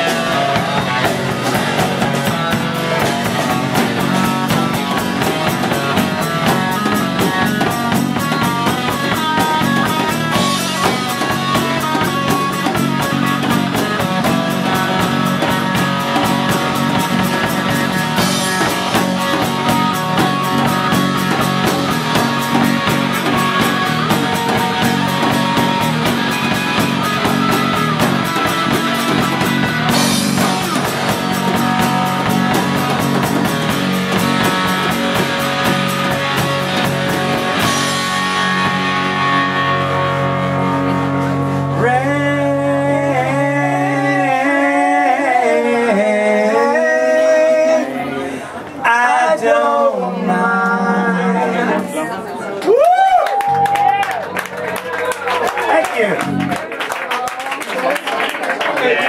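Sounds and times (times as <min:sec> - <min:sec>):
rock band playing: 0:00.0 - 0:45.1, 0:51.2 - 0:59.0.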